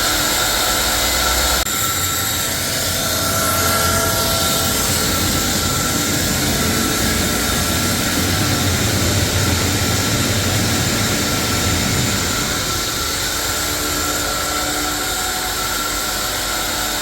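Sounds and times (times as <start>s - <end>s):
sawmill saw machinery running: 0.0s - 17.0s.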